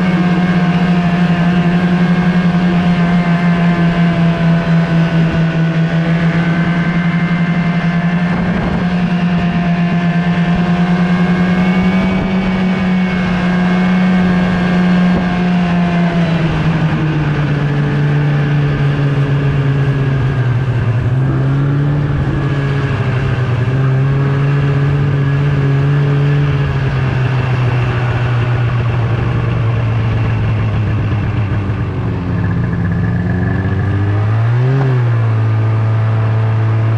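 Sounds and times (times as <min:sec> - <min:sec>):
snowmobile engine running: 0:00.0 - 0:36.9.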